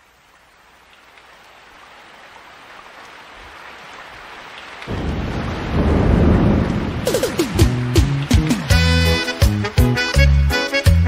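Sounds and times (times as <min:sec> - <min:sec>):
falling rain hiss: 0:00.0 - 0:11.0.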